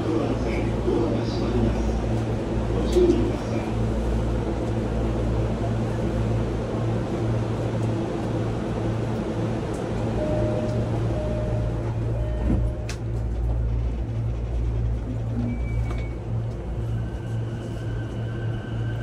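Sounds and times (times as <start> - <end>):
train motors and wheels rumbling: 0.0 - 19.0.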